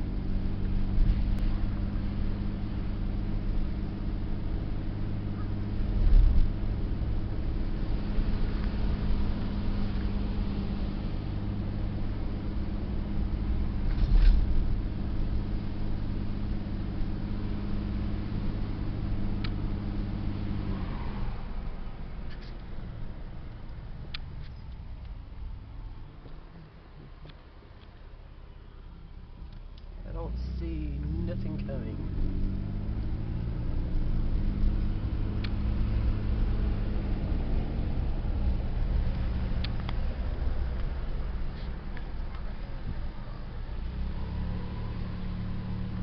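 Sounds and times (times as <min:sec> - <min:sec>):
car engine and road drone: 0:00.0 - 0:46.0.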